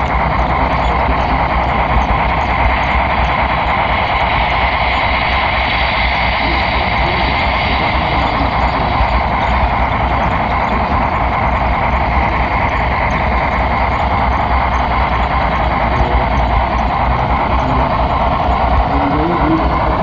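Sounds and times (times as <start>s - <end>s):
model train rolling on track: 0.0s - 20.0s.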